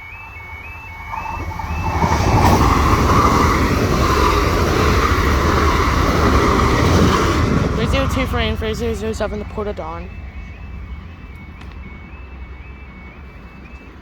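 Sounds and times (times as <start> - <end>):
diesel train passing: 0.0 - 14.0
level crossing alarm warbling: 0.0 - 14.0.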